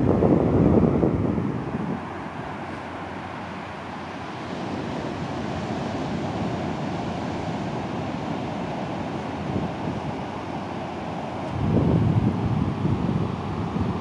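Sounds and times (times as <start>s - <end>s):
ocean surf washing onto beach: 0.0s - 14.0s
wind rumbling on microphone: 0.0s - 14.0s.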